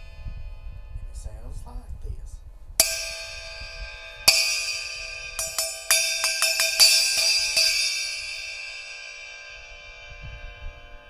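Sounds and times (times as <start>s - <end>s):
splash cymbal struck and ringing: 0.0s - 1.5s, 2.8s - 11.0s.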